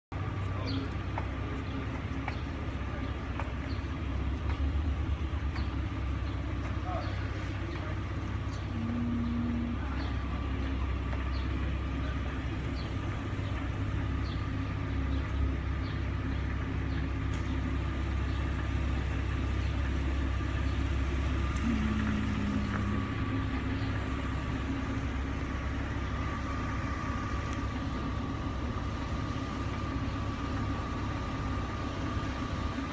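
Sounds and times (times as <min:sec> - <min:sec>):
constant machinery hum: 0:00.1 - 0:32.9
van engine rumbling: 0:00.1 - 0:32.9.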